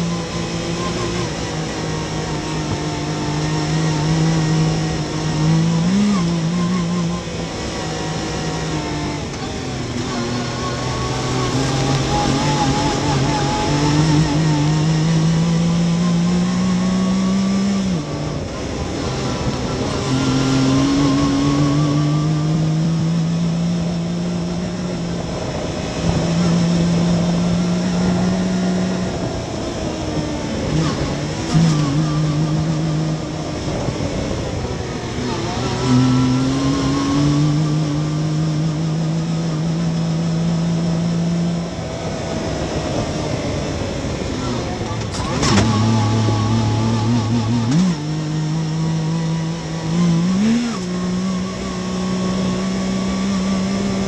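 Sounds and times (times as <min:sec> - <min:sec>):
engine running under load: 0:00.0 - 0:54.0
tyres on dirt trail: 0:00.0 - 0:54.0.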